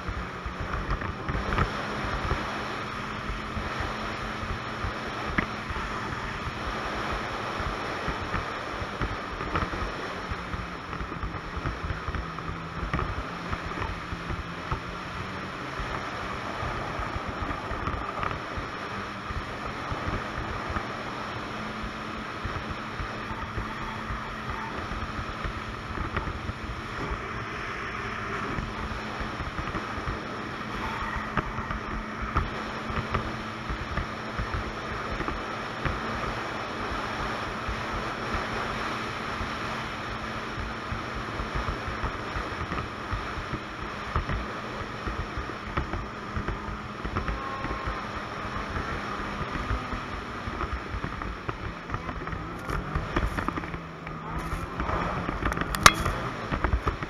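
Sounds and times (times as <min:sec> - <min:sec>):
snowmobile engine droning: 0:00.0 - 0:57.0
wind buffeting microphone: 0:00.0 - 0:57.0.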